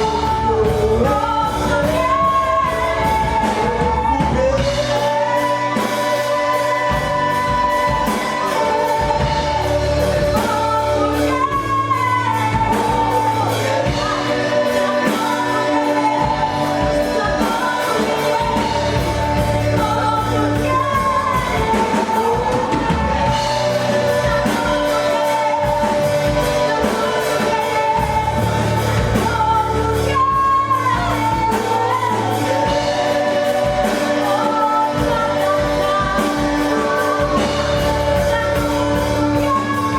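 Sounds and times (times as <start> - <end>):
gospel singing over a beat: 0.0 - 39.9.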